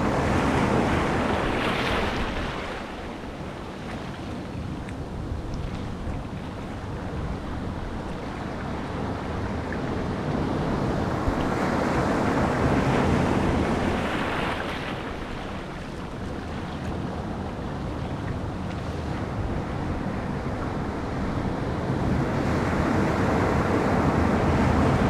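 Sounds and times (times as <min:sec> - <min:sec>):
ocean surf washing ashore: 0:00.0 - 0:25.0
wind rumble on microphone: 0:00.0 - 0:25.0.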